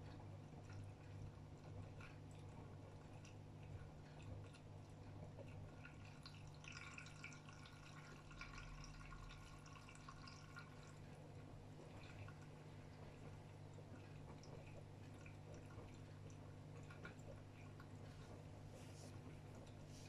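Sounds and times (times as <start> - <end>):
washing machine hum: 0.0 - 20.0
water sloshing in washing machine: 0.0 - 20.0.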